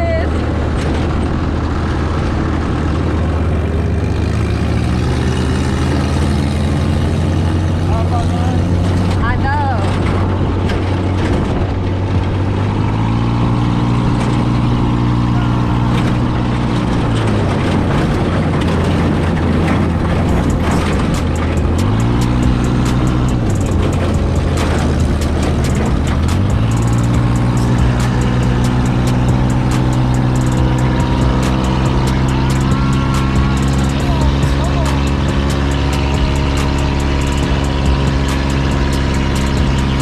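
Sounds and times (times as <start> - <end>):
buggy engine revving: 0.0 - 40.0
knocks and rattles: 0.4 - 40.0.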